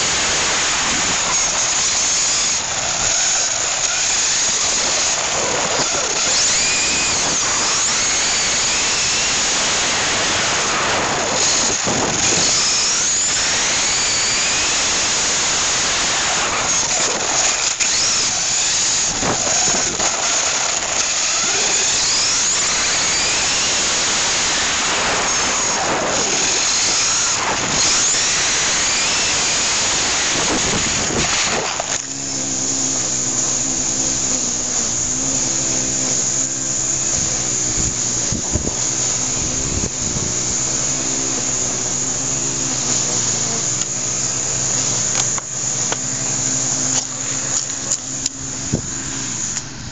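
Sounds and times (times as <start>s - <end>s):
electric motor and gear whine: 0.0s - 49.9s
steady low hum: 0.0s - 49.9s
wheels rolling on asphalt: 0.0s - 49.9s.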